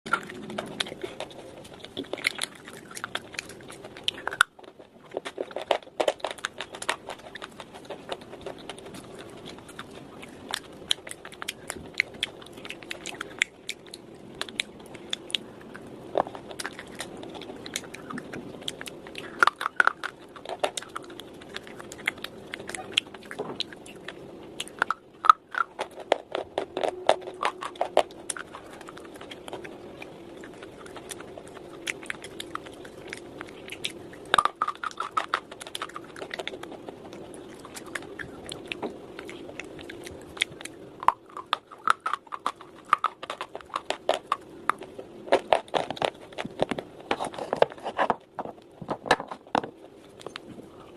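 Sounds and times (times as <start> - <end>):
crunching chewing: 0.1 - 50.9
low background hum: 0.1 - 50.9.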